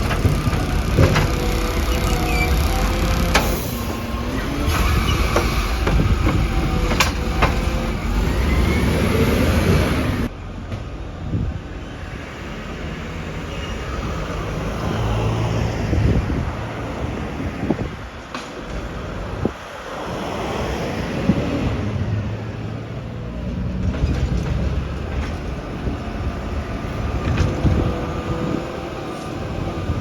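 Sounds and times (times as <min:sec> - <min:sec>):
garbage truck engine rumbling: 0:00.0 - 0:30.0.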